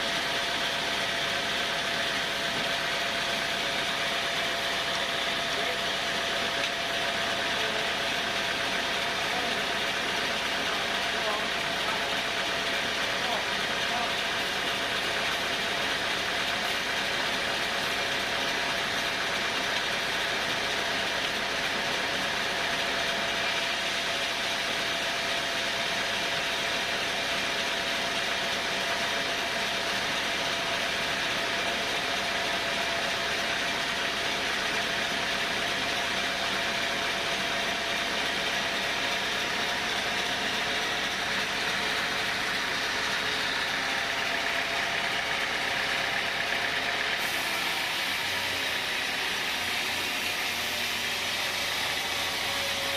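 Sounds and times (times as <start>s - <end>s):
sawmill machinery drone with whine: 0.0s - 52.9s.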